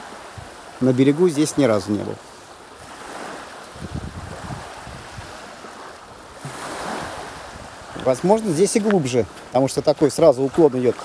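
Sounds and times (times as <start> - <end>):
waves washing onto sandy shore: 0.0 - 11.0
wind rumbling on microphone: 0.0 - 11.0.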